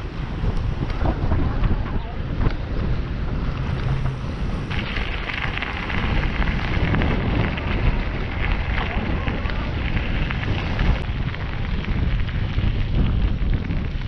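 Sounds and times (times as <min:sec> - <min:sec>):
bicycle tyres on metal grating: 0:00.0 - 0:14.0
wind buffeting microphone: 0:00.0 - 0:14.0
tyres crunching on gravel: 0:00.8 - 0:14.0.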